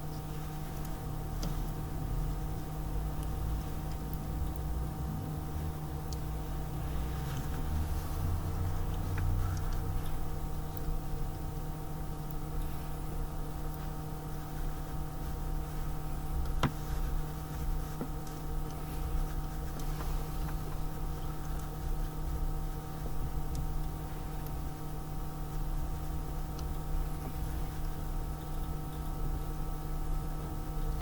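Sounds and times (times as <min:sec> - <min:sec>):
steady hum of fixed tones: 0:00.0 - 0:31.0.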